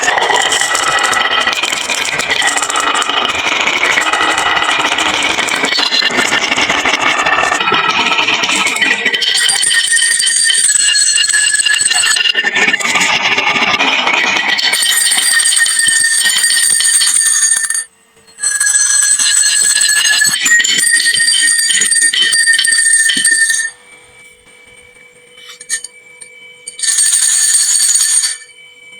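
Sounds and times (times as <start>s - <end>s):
glass marbles rolling on wood: 0.0s - 23.8s, 24.8s - 28.6s
steady ringing tones: 0.0s - 28.9s.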